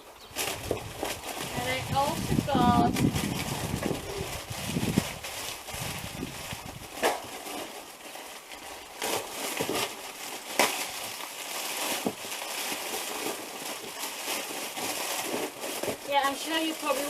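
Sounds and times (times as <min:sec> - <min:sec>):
packaging crinkling and rustling: 0:00.3 - 0:17.0.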